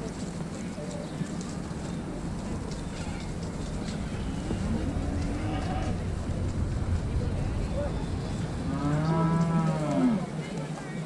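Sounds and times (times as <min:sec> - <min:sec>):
faint voices: 0:00.0 - 0:11.0
wind rumble on microphone: 0:00.0 - 0:11.0.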